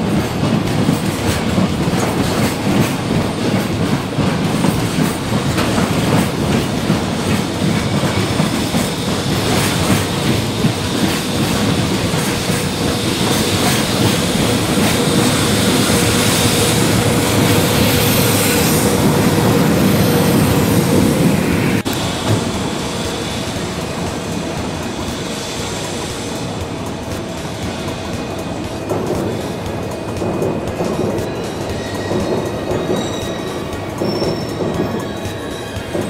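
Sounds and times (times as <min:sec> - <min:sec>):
train wheels clattering over joints: 0:00.0 - 0:36.0.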